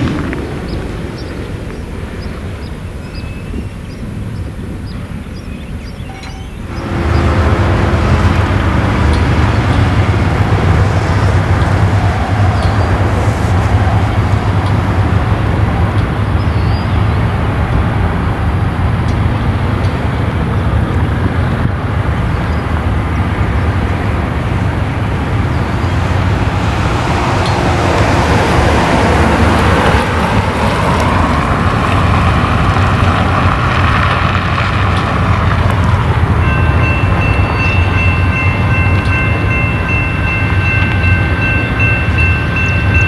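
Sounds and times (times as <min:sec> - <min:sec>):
diesel locomotive engine: 0:00.0 - 0:43.0
train wheels rumbling on rails: 0:00.0 - 0:43.0.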